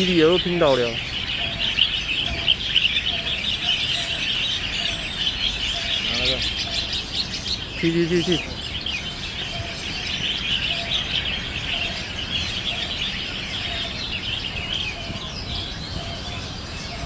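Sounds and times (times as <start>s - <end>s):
birds chattering: 0.0s - 17.0s.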